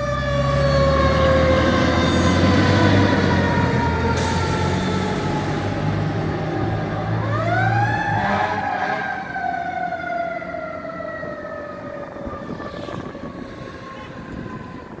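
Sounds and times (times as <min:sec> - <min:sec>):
fire engine siren: 0:00.0 - 0:15.0.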